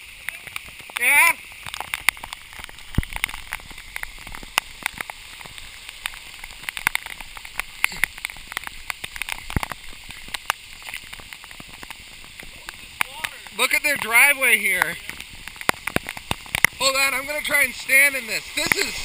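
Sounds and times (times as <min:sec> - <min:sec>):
heavy rain hiss: 0:00.0 - 0:19.0
raindrops ticking: 0:00.0 - 0:19.0.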